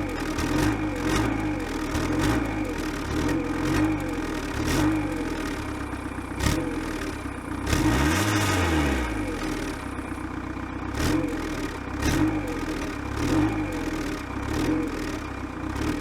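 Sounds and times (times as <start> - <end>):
diesel engine idling and revving: 0.0 - 16.0.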